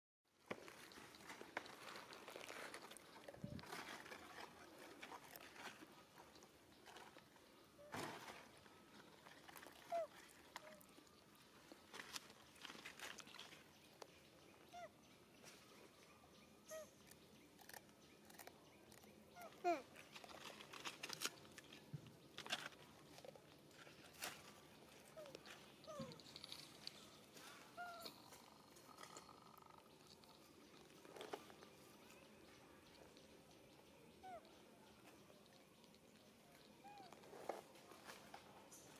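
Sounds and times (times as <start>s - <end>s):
small clicks and rustles: 0.4s - 14.3s, 17.0s - 38.9s.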